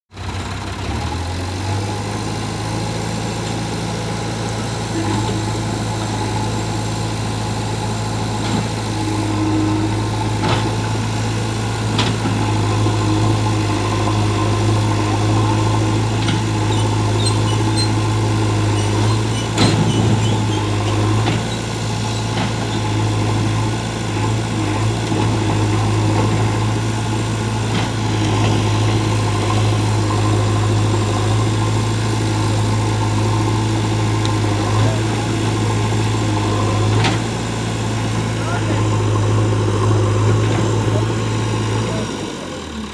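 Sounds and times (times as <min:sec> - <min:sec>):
diesel engine running: 0:00.1 - 0:42.9.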